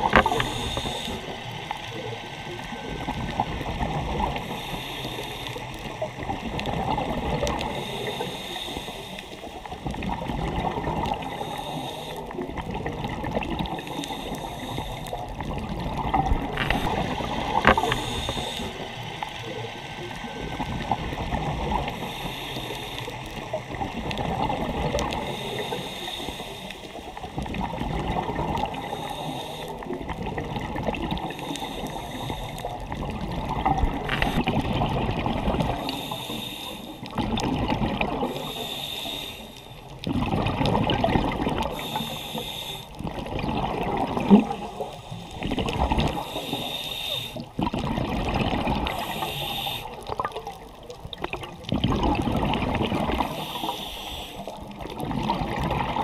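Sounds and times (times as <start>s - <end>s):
water sloshing and lapping: 0.0s - 2.0s, 5.7s - 19.6s, 20.3s - 36.3s, 36.9s - 38.8s, 39.4s - 56.0s.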